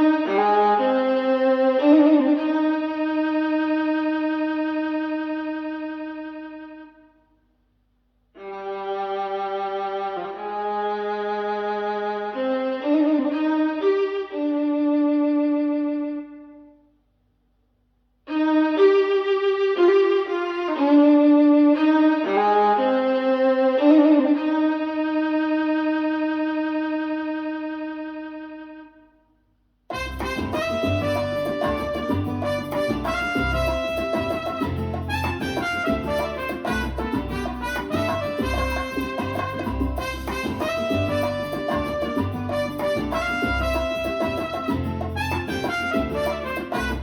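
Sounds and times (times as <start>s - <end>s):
solo violin music over speakers: 0.0s - 7.0s, 8.4s - 16.7s, 18.3s - 29.0s, 29.9s - 47.0s.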